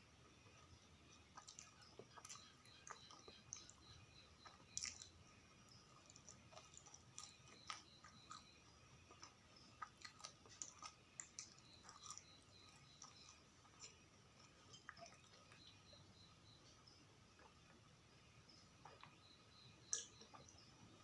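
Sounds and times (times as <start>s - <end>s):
wet chewing mouth sounds: 0.4s - 17.9s.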